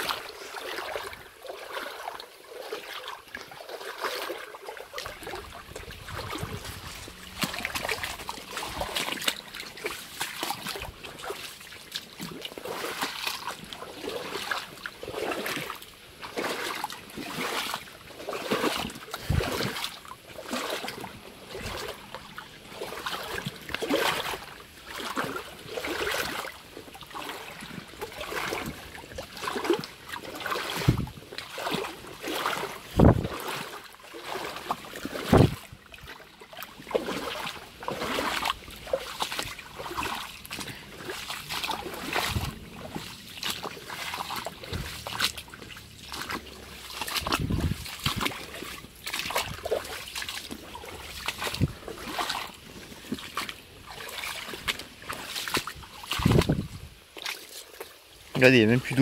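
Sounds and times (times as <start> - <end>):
water splashing and sloshing: 0.0 - 59.0.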